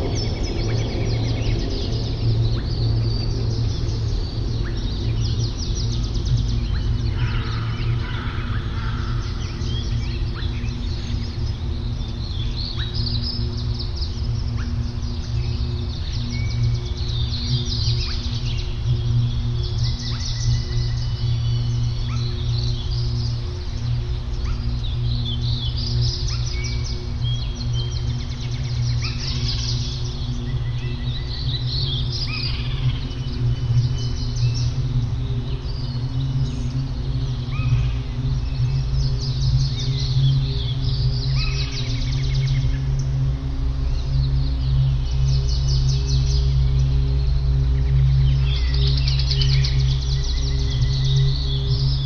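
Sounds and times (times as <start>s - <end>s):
birds chirping: 0.0s - 52.0s
low music drone: 0.0s - 52.0s.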